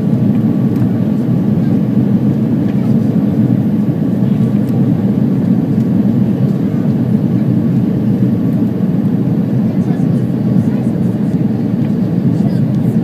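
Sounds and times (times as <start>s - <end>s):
airflow over aircraft fuselage: 0.0s - 13.0s
jet engines rumbling: 0.0s - 13.0s.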